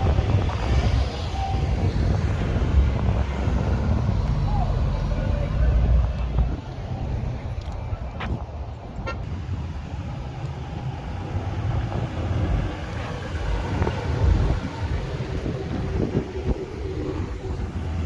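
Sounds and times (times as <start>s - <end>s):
car engines rumbling: 0.0s - 18.0s
traffic noise: 0.0s - 18.0s.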